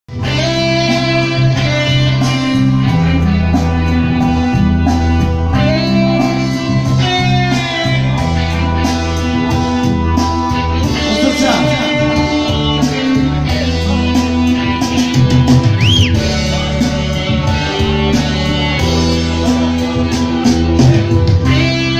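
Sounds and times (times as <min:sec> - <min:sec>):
live band playing: 0:00.1 - 0:21.9.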